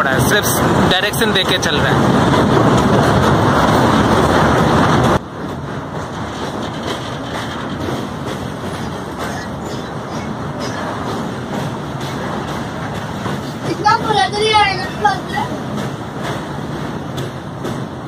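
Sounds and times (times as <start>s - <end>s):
train running on steel bridge: 0.0s - 18.0s.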